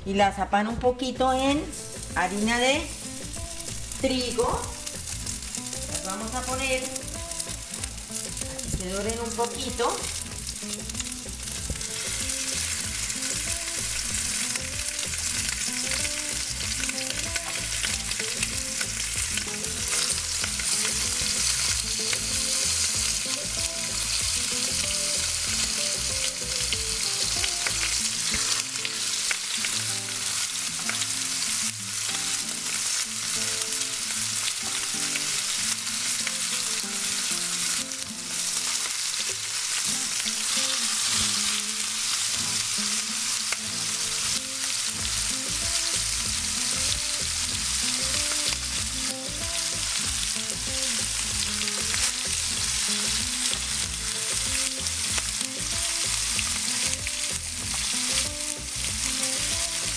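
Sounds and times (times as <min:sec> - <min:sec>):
chicken sizzling in hot oil: 0:01.0 - 0:59.9.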